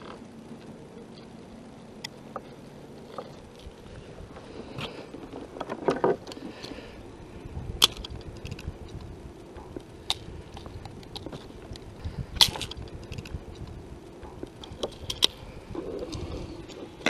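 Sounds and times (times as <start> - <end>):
fishing gear clicks and rattles: 2.0 - 7.0, 7.8 - 17.0.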